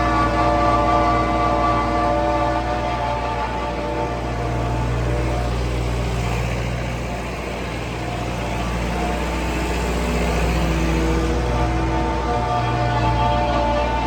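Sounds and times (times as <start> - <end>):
farm machine engine running: 0.0 - 14.0.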